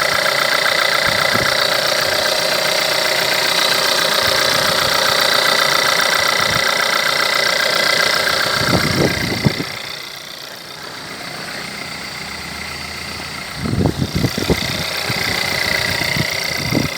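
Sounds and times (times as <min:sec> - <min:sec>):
car engine idling with knocking: 0:00.0 - 0:16.9.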